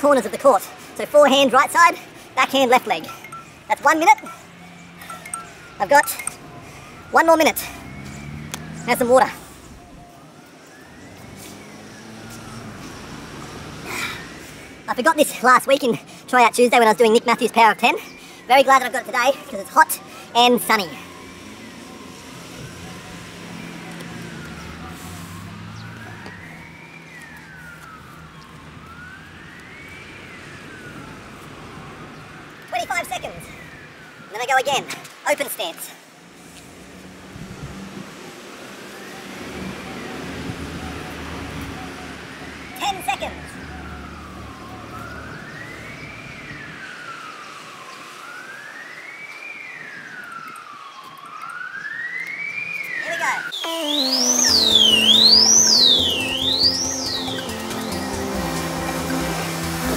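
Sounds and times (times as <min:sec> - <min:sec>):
emergency siren wailing: 0:00.0 - 0:59.9.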